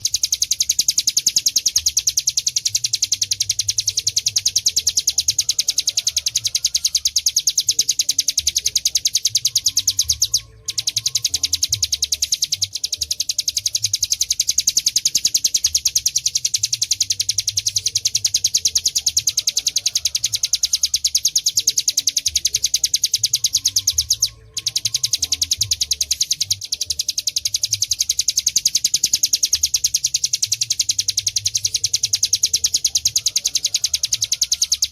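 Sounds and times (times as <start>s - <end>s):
bird singing fast high trill: 0.0s - 34.9s.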